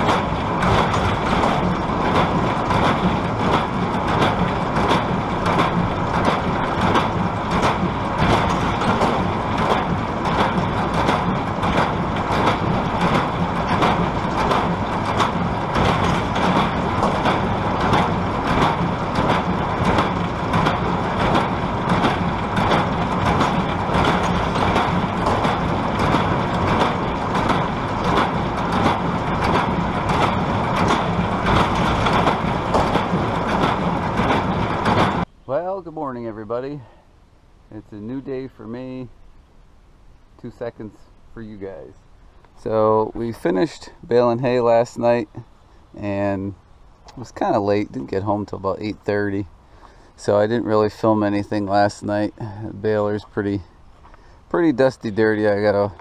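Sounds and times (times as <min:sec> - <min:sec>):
tractor engine drone: 0:00.0 - 0:56.0.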